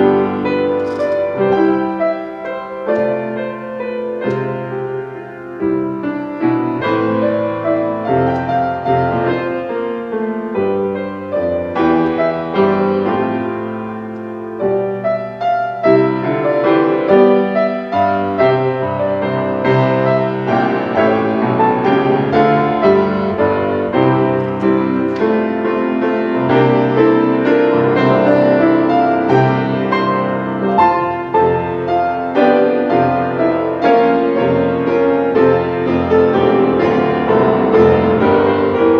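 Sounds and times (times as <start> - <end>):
piano piece: 0.0 - 38.9.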